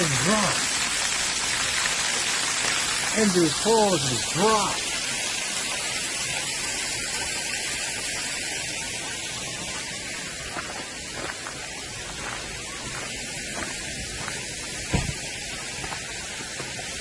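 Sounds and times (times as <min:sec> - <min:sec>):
water splashing down rocks: 0:00.0 - 0:17.0.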